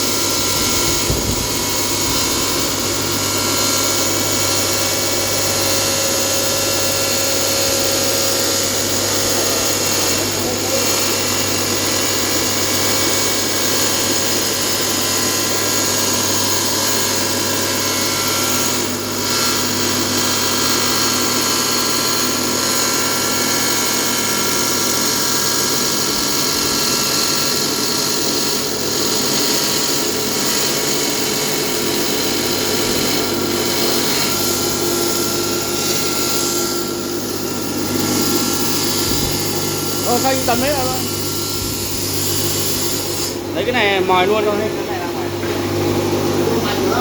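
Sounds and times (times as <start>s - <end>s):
tile saw cutting ceramic tile: 0.0s - 47.0s.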